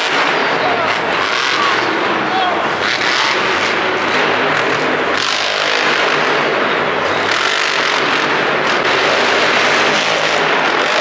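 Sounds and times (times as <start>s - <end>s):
truck engine running at high revs: 0.0s - 11.0s.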